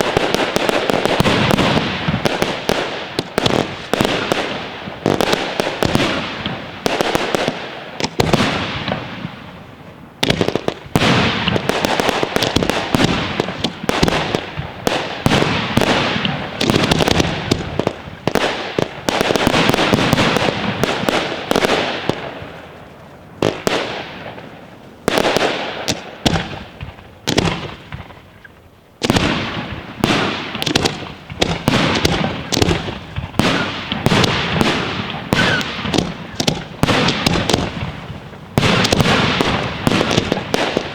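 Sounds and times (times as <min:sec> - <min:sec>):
fireworks bangs and bursts: 0:00.0 - 0:40.9
fireworks crackling: 0:00.0 - 0:40.9.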